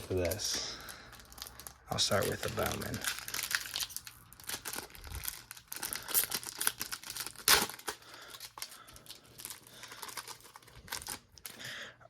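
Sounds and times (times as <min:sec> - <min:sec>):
wrapper tearing and crinkling: 0:00.0 - 0:11.6.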